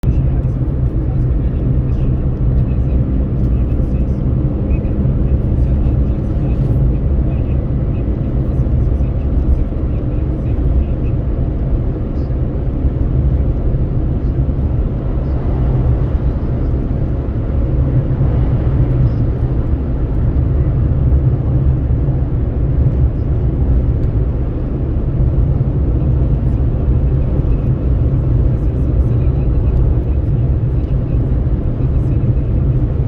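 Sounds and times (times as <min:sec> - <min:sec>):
tyre and engine rumble: 0:00.0 - 0:33.0
wind rushing at window: 0:00.0 - 0:33.0.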